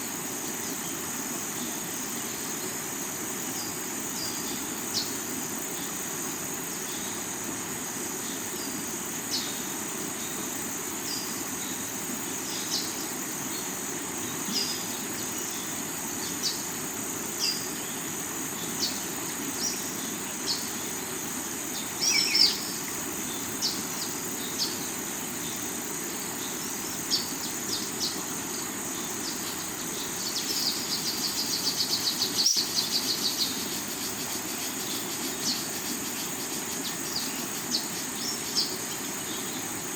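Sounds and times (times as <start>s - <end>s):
insect buzz: 0.0s - 39.9s.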